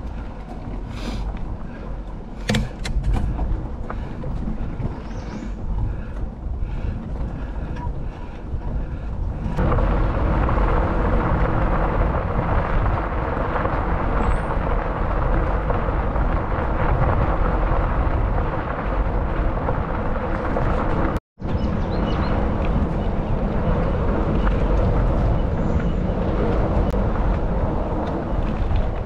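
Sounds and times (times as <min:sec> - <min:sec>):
bicycle tyres rolling on dirt: 0:00.0 - 0:29.0
wind rushing over microphone: 0:00.0 - 0:29.0.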